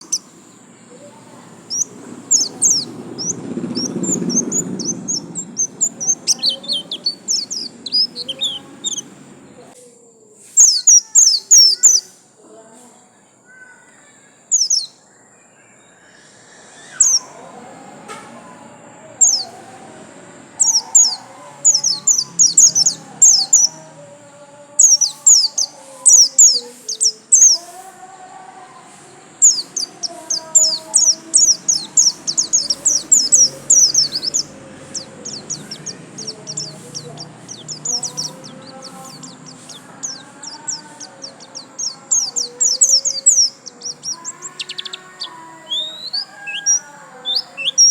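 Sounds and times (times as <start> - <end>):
bird singing high chirps: 0.0 - 9.8, 10.4 - 12.2, 13.5 - 47.9.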